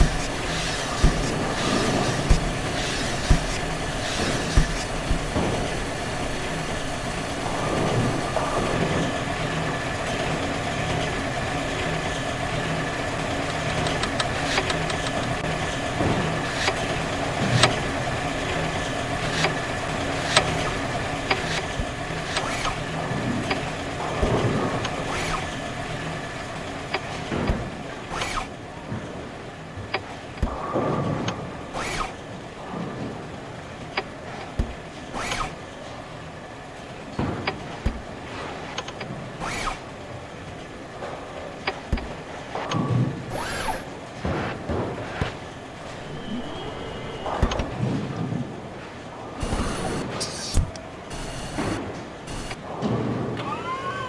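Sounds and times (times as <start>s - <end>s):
loud mechanical clunks: 0.0s - 53.5s
pinsetter machinery humming: 0.0s - 54.0s.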